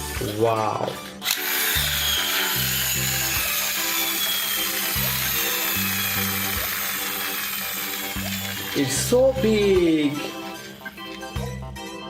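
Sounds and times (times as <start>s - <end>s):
background music with bass line: 0.0s - 12.0s
toy train motor whirring: 1.2s - 11.3s.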